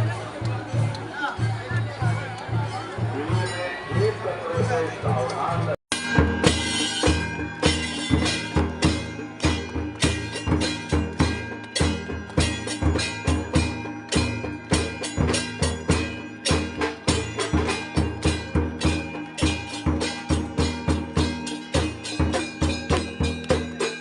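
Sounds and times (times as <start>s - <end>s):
bells ringing: 0.0s - 24.0s
dhol drum beating: 0.0s - 24.0s.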